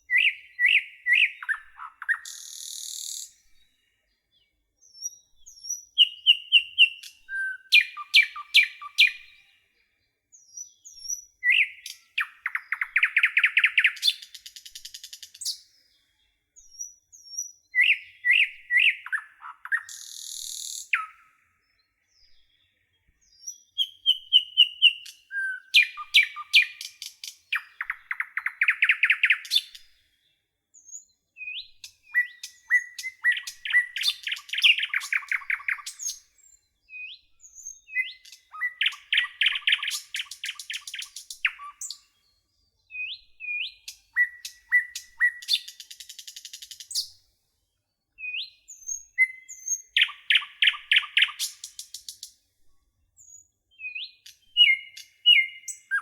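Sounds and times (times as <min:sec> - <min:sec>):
songbird singing: 0:00.0 - 0:52.4, 0:53.2 - 0:56.0.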